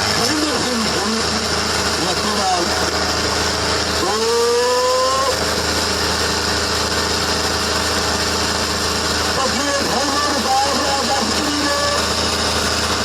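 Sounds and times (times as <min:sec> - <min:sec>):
diesel tractor engines running: 0:00.0 - 0:13.0.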